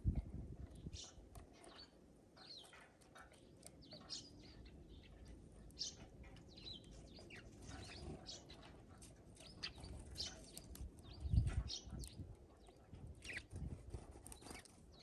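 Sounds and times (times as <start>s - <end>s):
songbirds chirping faintly: 0.0s - 15.0s.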